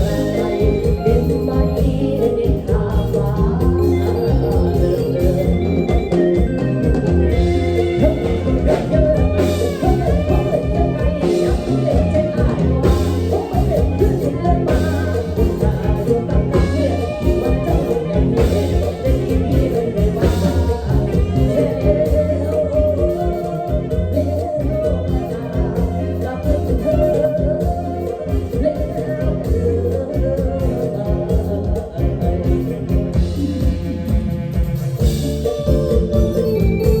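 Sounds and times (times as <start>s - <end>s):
pitch-bending melody: 0.0s - 37.0s
pulsing bass line: 0.0s - 37.0s.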